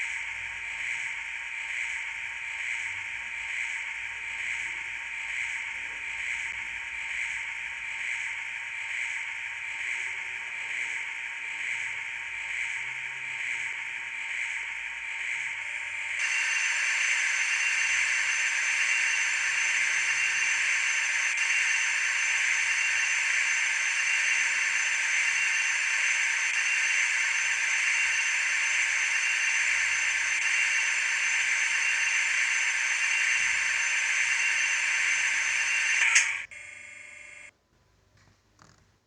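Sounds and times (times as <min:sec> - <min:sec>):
machining centre hiss and whine: 0:00.0 - 0:37.5.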